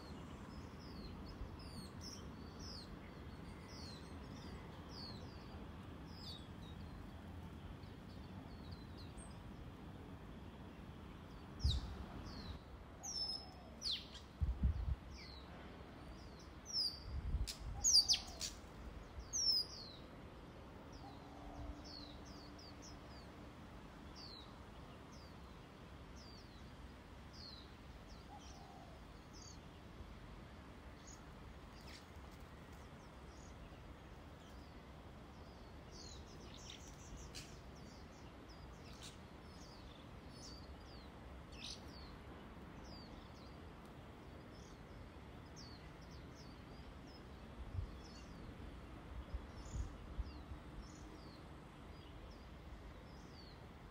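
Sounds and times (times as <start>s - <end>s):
small birds chirping: 0.0s - 20.2s, 20.8s - 30.2s, 30.8s - 53.9s
faint outdoor hiss: 0.0s - 53.9s.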